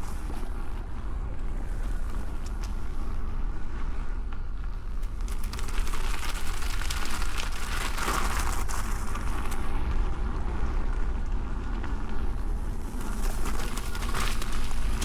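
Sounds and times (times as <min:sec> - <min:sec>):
tyre crunching over dirt: 0:00.0 - 0:15.0
wind rumbling on microphone: 0:00.0 - 0:15.0.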